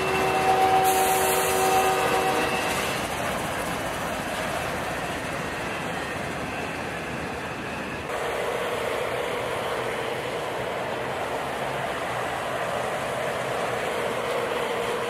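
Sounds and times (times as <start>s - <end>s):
diesel locomotives humming: 0.0s - 15.0s
freight train cars rumbling: 0.0s - 15.0s.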